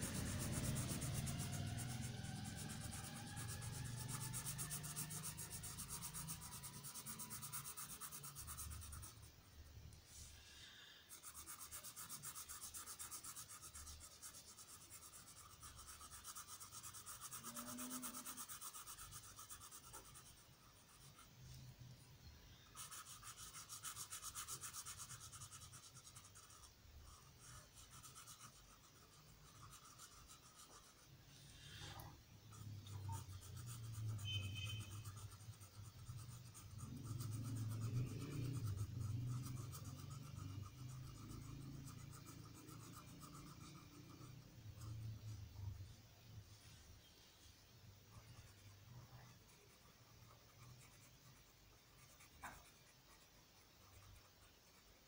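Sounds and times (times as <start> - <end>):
marker rubbing on paper: 0.0 - 9.4, 10.1 - 21.7, 22.7 - 45.7, 48.1 - 55.0.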